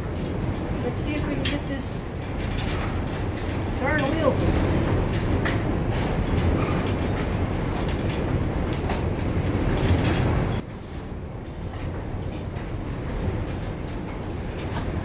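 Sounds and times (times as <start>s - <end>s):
steady rumbling background: 0.0s - 15.0s.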